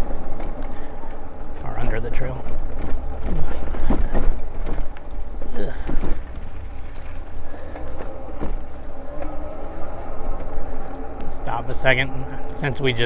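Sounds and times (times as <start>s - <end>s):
bike and trailer rattling: 0.0s - 13.0s
bike tyre rumble on pavement: 0.0s - 13.0s
wind: 0.0s - 13.0s.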